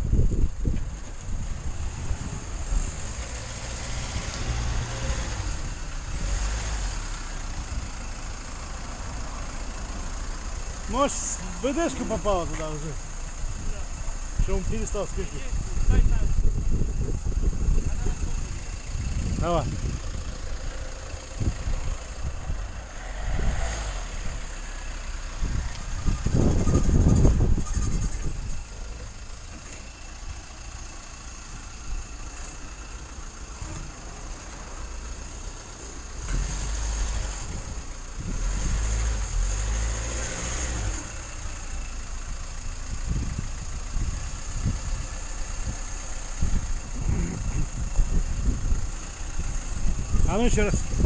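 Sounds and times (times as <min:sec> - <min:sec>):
van engine running low rumble: 0:00.0 - 0:51.0.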